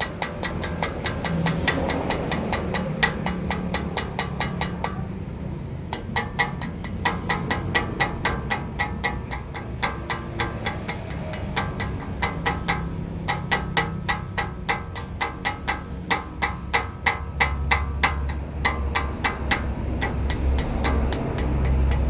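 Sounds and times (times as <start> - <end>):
rapid metallic tapping: 0.0 - 22.0.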